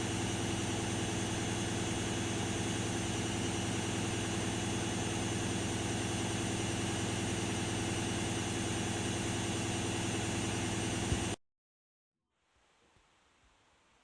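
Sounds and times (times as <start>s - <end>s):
washing machine motor hum: 0.0s - 11.4s.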